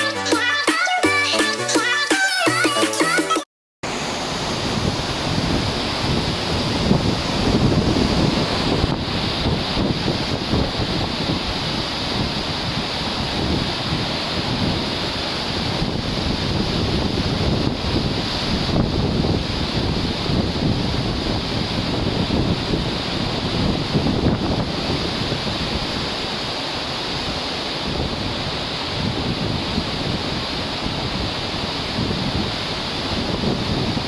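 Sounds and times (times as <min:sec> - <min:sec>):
rough sea churning: 0:03.8 - 0:34.0
strong wind buffeting microphone: 0:03.9 - 0:34.0.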